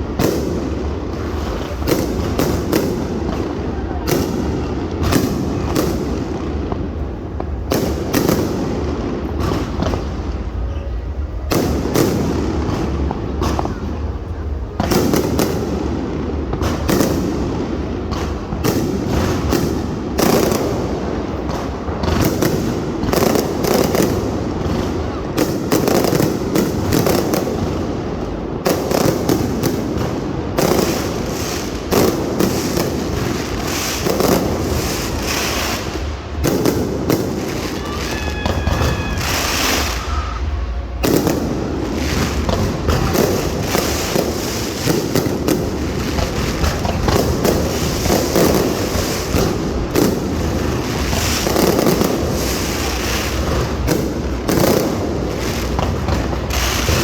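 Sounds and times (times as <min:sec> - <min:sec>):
fireworks booming and crackling: 0:00.0 - 0:57.0.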